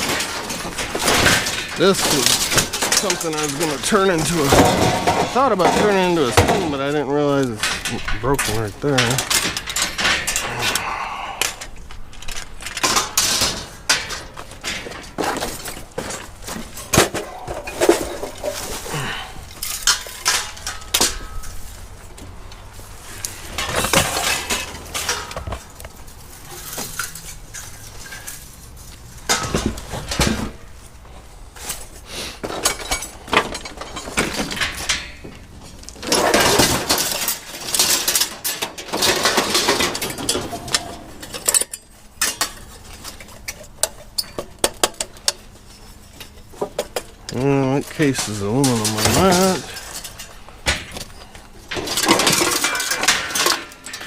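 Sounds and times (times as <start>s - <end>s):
scrap metal clanking: 0.0s - 54.0s.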